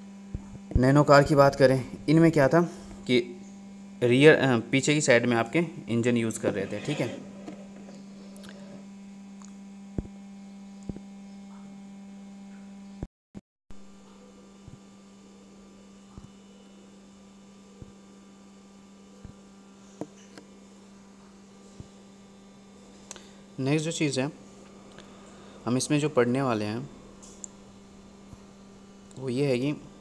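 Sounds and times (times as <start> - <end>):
electrical hum: 0.0 - 13.1, 13.8 - 30.0.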